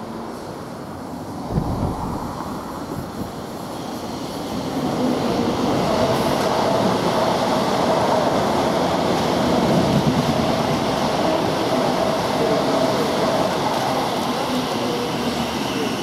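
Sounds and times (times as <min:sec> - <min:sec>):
trains passing rumble: 0:00.0 - 0:16.0.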